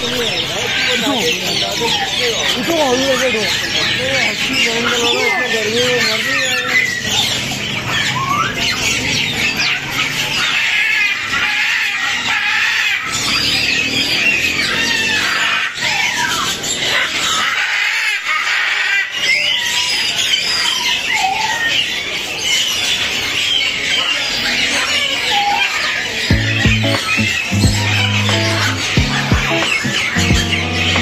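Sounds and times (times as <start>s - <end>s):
caged birds chirping and squawking: 0.0s - 31.0s.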